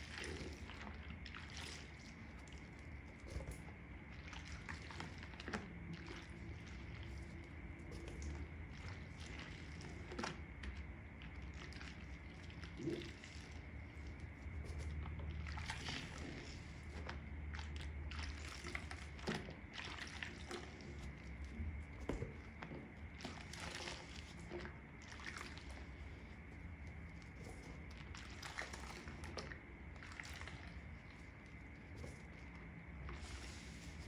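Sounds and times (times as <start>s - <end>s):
sponge squelching in soapy water: 0.0s - 34.0s
steady low hum: 0.0s - 34.0s.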